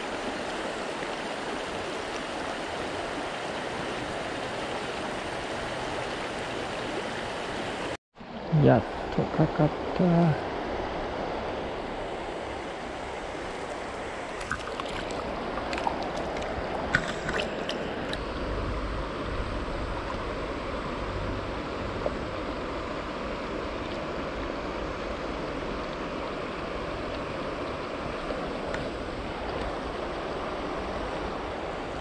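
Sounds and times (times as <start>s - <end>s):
river current rushing: 0.0s - 32.0s.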